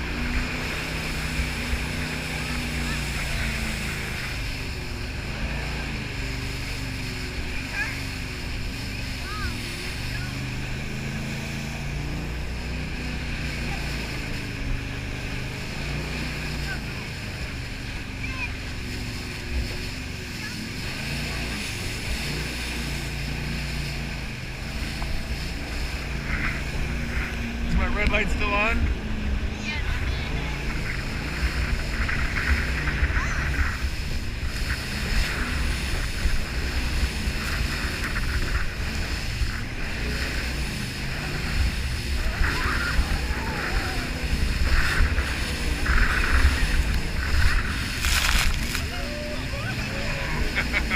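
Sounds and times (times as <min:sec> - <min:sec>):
boat engine drone: 0:00.0 - 0:50.9
rushing water: 0:00.0 - 0:50.9
wind buffeting microphone: 0:00.0 - 0:50.9.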